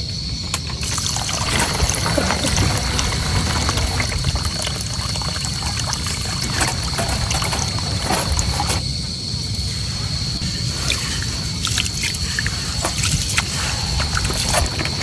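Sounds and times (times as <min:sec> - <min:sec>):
low rumble: 0:00.1 - 0:15.0
water pouring and trickling: 0:00.5 - 0:08.8, 0:10.4 - 0:15.0
water drips and splashes: 0:00.8 - 0:08.8, 0:10.4 - 0:15.0.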